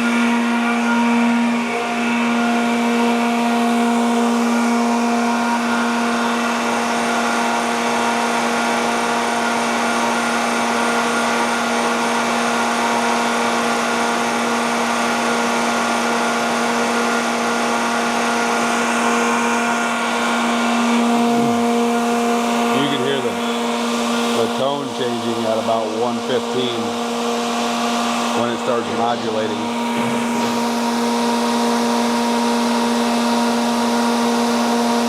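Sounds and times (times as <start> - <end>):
air compressor humming: 0.0 - 35.0.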